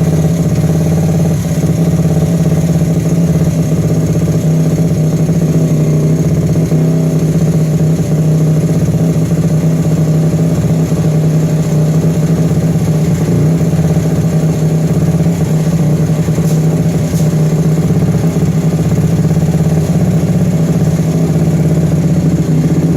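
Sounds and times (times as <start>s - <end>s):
mini-bike engine running steadily: 0.0s - 22.9s.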